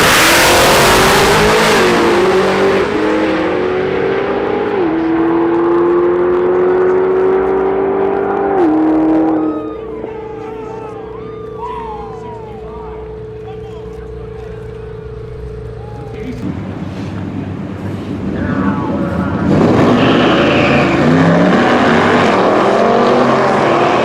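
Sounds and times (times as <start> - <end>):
drag racing car accelerating: 0.0 - 10.4, 12.8 - 24.0.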